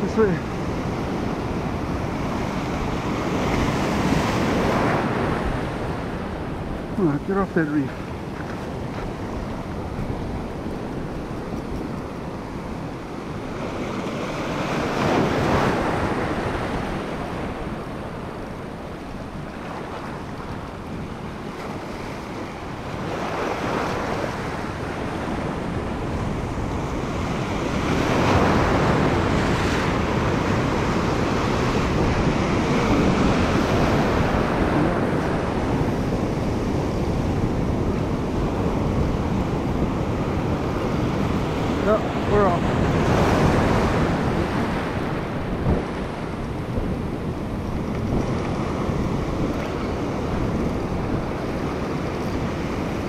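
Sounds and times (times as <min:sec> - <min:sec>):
ocean surf washing over rocks: 0:00.0 - 0:53.0.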